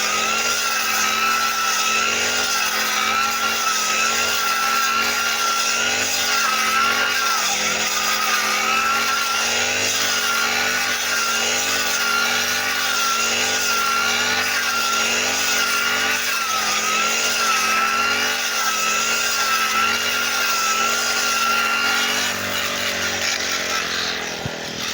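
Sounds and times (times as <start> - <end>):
brush cutter engine running: 0.0 - 24.9.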